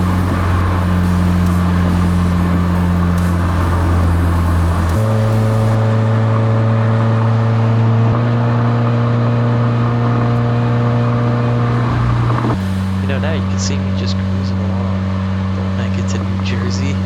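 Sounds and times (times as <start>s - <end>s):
car engine droning: 0.0s - 17.0s
road noise: 0.0s - 17.0s.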